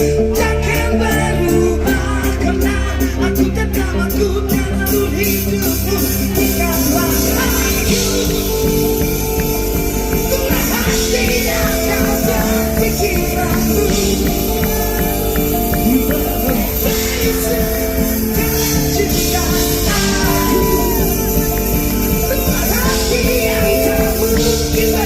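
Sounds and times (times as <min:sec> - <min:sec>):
live rock band music: 0:00.0 - 0:25.0.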